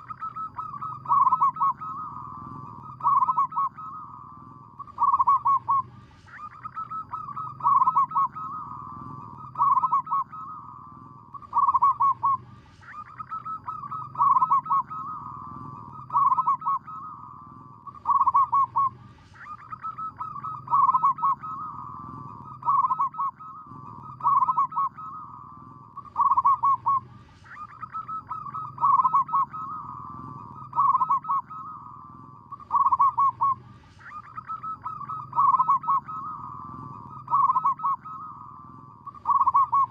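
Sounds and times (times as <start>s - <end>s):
dove cooing: 0.0s - 39.9s
faint low hum: 0.0s - 39.9s.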